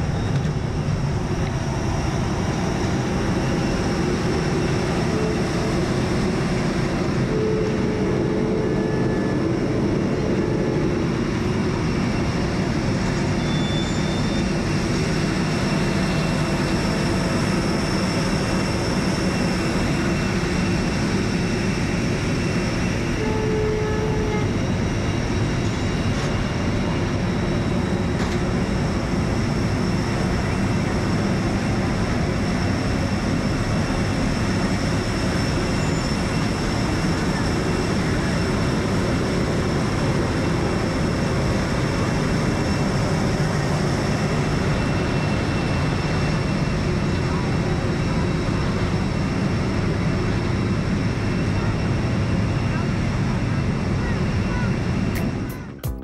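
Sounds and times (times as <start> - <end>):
jet engine drone: 0.0 - 56.0.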